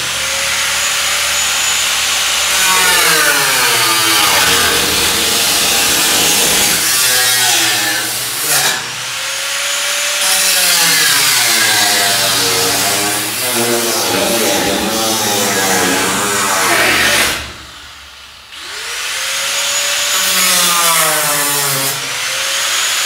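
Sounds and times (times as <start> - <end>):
angle grinder cutting sheet steel: 0.0 - 23.0.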